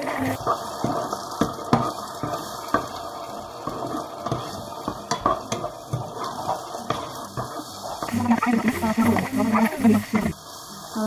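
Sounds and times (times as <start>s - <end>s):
onion and garlic sizzling: 0.0s - 11.0s.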